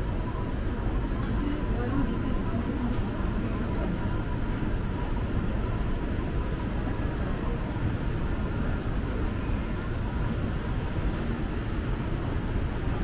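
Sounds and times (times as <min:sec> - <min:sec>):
shopping mall ambience rumble: 0:00.0 - 0:13.0.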